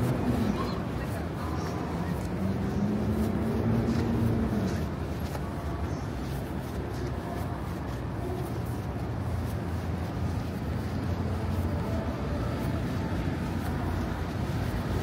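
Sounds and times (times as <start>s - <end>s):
city street low rumble: 0.0s - 15.0s
traffic noise: 0.0s - 15.0s.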